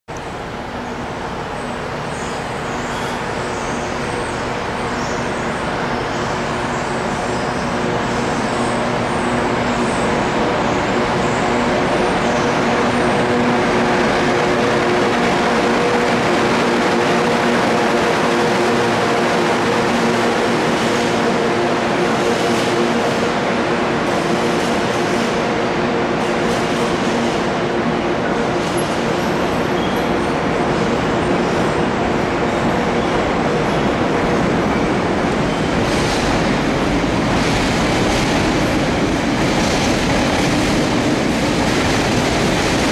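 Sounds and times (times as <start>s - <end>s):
electric locomotive hum: 0.1s - 42.9s
train rumble: 0.1s - 42.9s.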